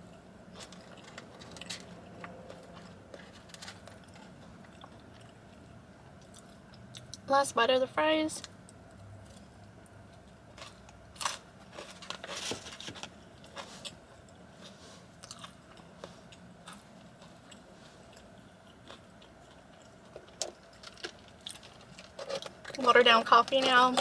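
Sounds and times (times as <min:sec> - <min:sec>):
wet chewing clicks and crunches: 0:00.0 - 0:07.3, 0:08.4 - 0:24.0.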